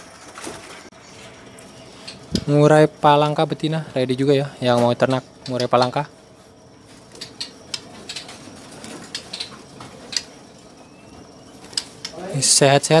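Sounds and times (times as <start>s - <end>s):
murmur of birds: 0.2s - 13.0s
songbird chirps: 1.0s - 13.0s.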